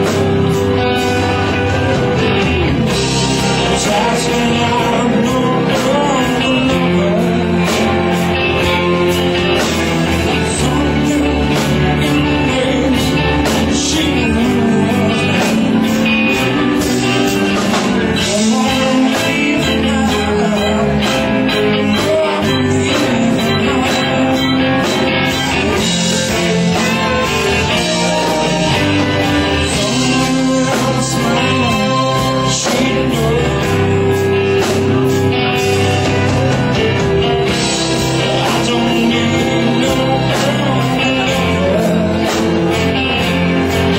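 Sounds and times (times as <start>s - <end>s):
guitar: 0.0s - 43.9s
live rock band: 0.0s - 43.9s
person singing: 0.0s - 43.9s.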